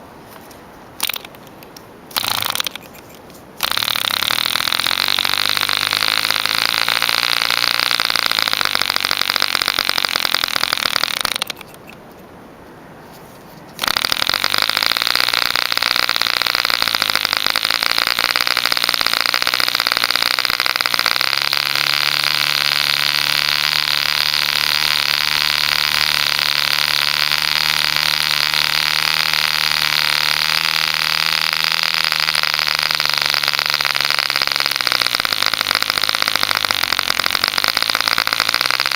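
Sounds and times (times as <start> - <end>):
model diesel engine buzzing: 3.6 - 11.6, 13.8 - 38.9.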